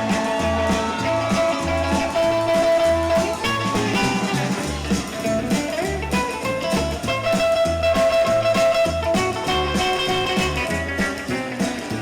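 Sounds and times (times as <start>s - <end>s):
drums: 0.0s - 12.0s
lead guitar solo: 0.0s - 12.0s
walking bass line: 0.0s - 12.0s.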